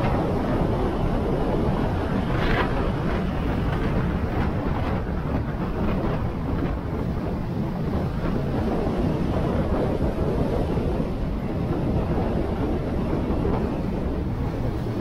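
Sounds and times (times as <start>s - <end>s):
motorcycle road noise: 0.0s - 15.0s
wind rushing over microphone: 0.0s - 15.0s.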